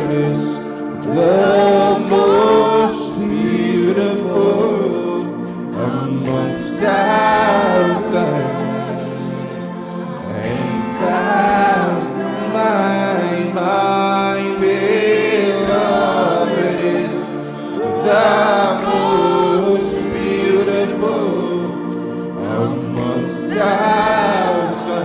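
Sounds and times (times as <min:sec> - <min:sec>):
people singing worship song: 0:00.0 - 0:25.0
sustained accompaniment: 0:00.0 - 0:25.0.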